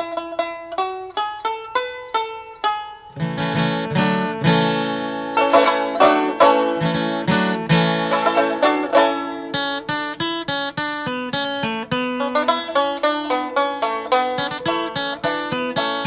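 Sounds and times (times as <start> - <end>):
plucked string instrument music: 0.0 - 16.0.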